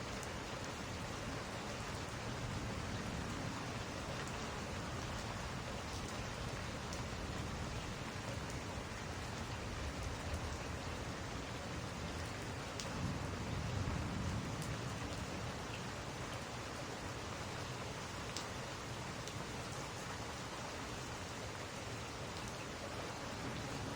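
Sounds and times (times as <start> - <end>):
steady rain: 0.0 - 23.9.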